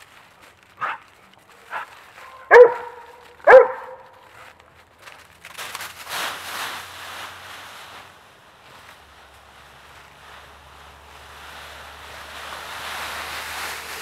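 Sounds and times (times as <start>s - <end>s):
dog thrashing through leaves: 0.0s - 14.0s
dry leaves rustling: 0.0s - 14.0s.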